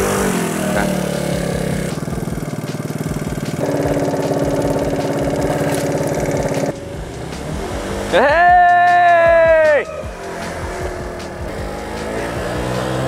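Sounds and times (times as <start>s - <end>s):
small scooter engine running: 0.0s - 13.0s.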